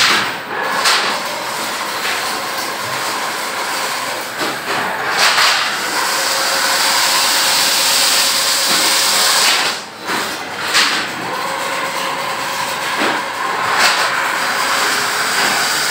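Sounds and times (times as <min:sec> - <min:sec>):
machinery hissing and rattling: 0:00.0 - 0:15.9.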